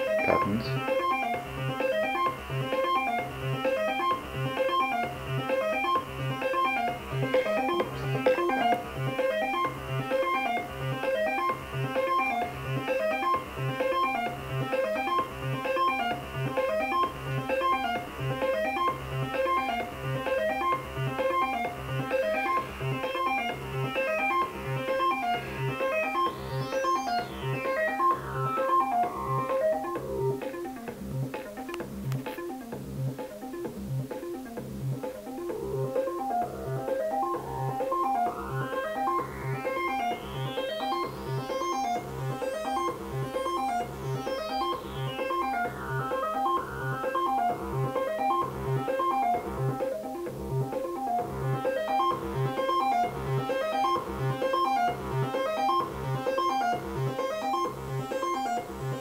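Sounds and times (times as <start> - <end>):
synthesizer repeating note pattern: 0.0 - 59.0.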